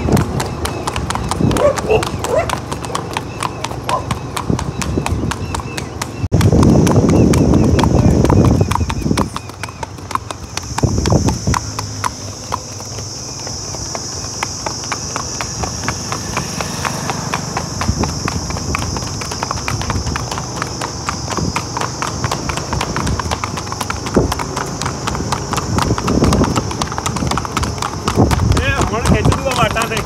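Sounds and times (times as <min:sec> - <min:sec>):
horse hooves clip-clopping on pavement: 0:00.0 - 0:30.0.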